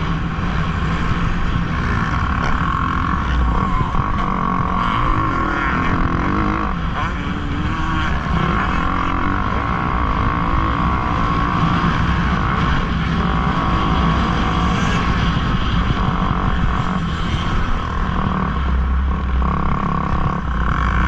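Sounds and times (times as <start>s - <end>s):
dirt bike engines running: 0.0s - 21.0s.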